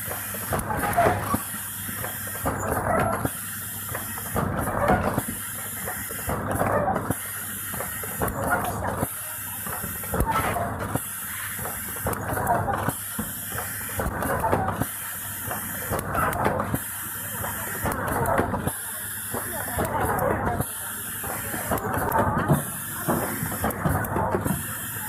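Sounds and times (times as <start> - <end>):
mechanical clatter: 0.0 - 25.0
packing machine hum and hiss: 0.0 - 25.0.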